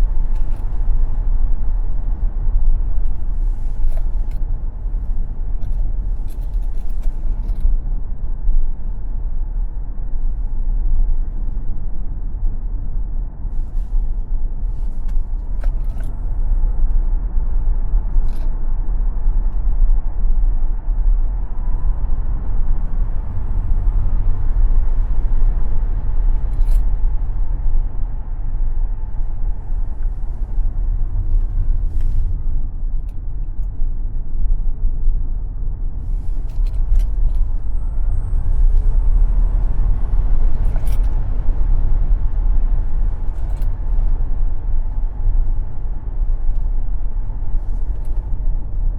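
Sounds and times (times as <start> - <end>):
tyre and road rumble: 0.0 - 48.9
wind noise: 0.0 - 48.9.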